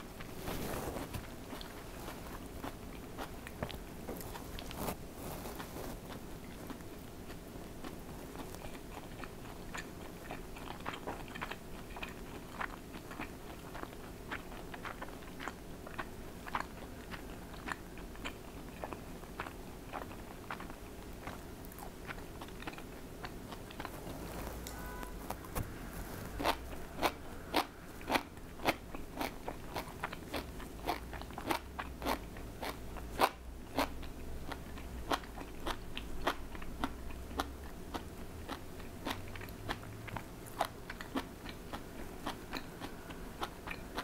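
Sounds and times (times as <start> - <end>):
person chewing crunchy food: 0.0 - 44.0.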